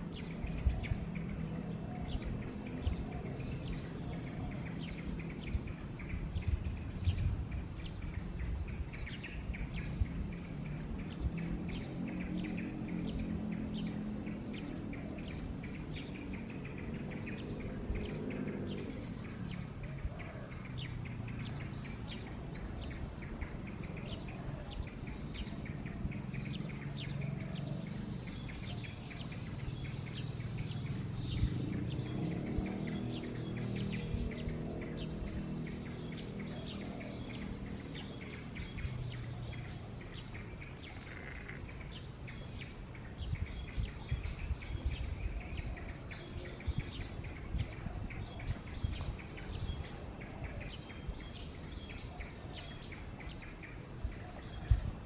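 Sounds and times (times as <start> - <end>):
bird chirps and twitters: 0.0 - 55.0.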